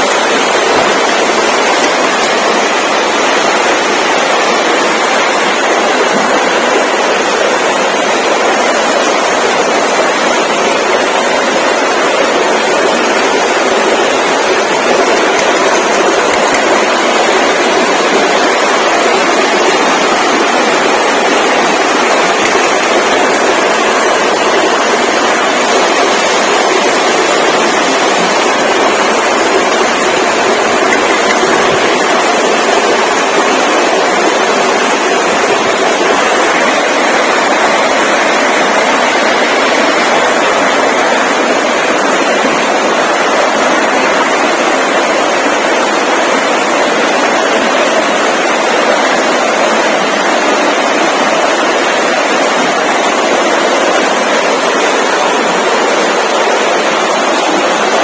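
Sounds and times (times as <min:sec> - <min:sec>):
steady loud rushing noise: 0:00.0 - 0:58.0.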